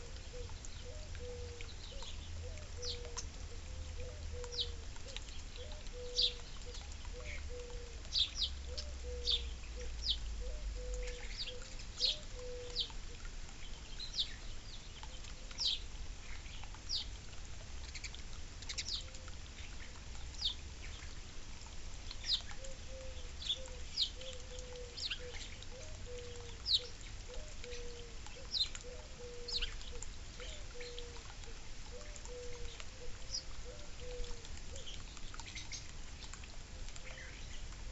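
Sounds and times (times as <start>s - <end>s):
small birds chirping: 0.0s - 21.3s, 22.0s - 37.9s.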